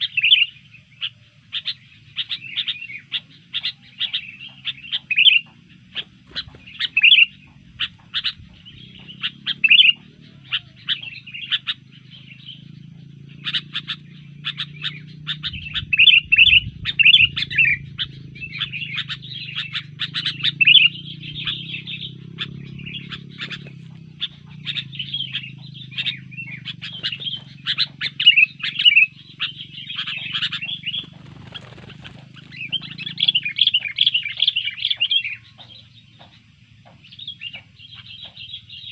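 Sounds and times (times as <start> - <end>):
bulbul chirping calls: 0.0 - 38.9.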